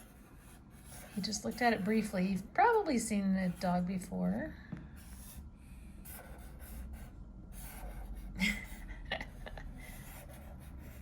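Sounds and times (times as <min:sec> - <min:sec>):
pen scratching on paper: 0:00.0 - 0:04.1, 0:05.0 - 0:05.4, 0:06.0 - 0:11.0.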